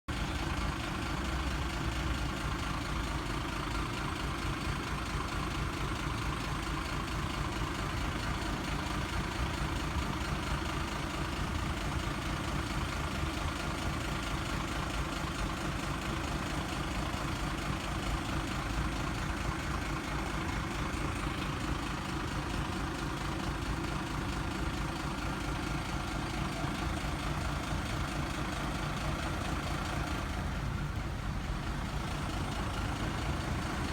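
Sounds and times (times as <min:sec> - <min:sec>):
engine idling rumble: 0:00.1 - 0:33.9.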